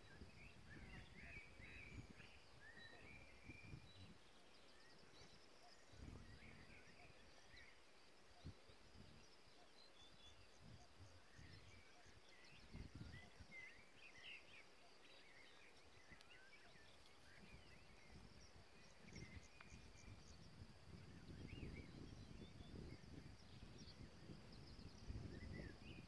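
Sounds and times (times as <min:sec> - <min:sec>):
bird chirps: 0:00.0 - 0:26.0
high insect hum: 0:00.0 - 0:26.0.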